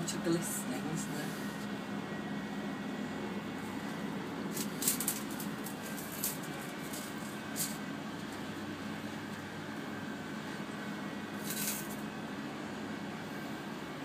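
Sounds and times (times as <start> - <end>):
cable car low hum: 0.0 - 14.0.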